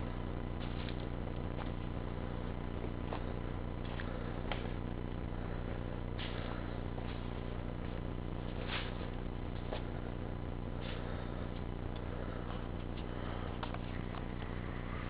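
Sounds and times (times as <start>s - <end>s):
faint clicks and rustles: 0.3s - 14.7s.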